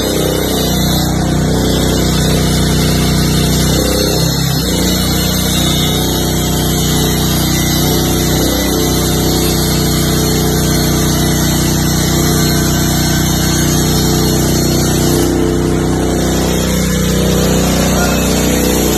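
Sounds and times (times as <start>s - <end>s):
diesel generator engine running: 0.0s - 18.9s.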